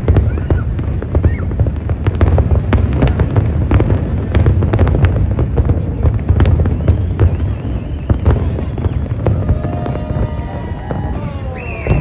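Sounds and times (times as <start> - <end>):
fireworks cracks and bangs: 0.0 - 12.0
low rumble of booms: 0.0 - 12.0.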